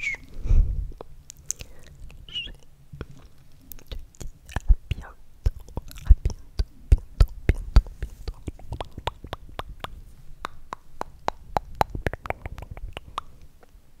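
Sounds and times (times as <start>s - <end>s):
wet mouth clicks and smacks: 1.3s - 13.8s.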